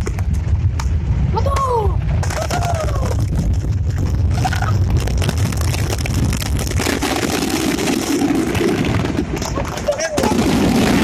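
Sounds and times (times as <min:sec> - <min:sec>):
fireworks crackling: 0:00.0 - 0:11.0
low rumble: 0:00.0 - 0:11.0.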